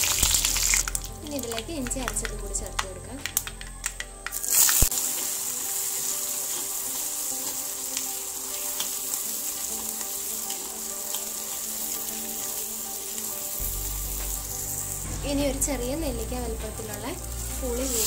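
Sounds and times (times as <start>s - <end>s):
paste sizzling in hot oil: 0.0s - 18.0s.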